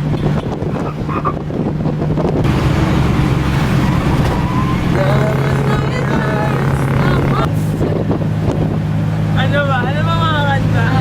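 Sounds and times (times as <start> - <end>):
engine running: 0.0 - 11.0
wind buffeting microphone: 0.0 - 11.0.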